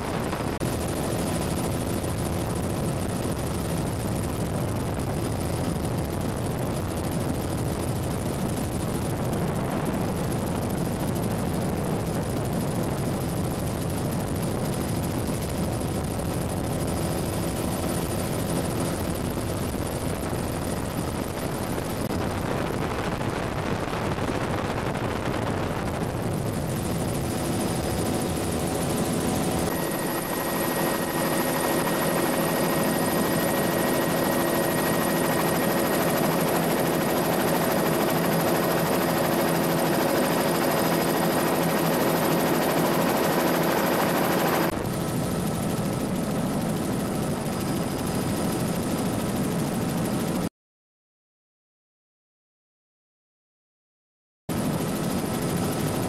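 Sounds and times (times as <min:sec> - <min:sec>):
helicopter engine and rotor: 0:00.0 - 0:50.5, 0:54.5 - 0:56.0.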